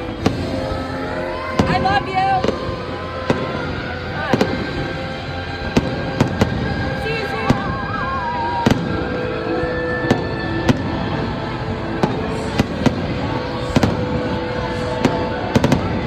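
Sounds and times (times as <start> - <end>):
music playing: 0.0 - 16.0
fireworks banging: 1.5 - 9.4, 10.0 - 16.0.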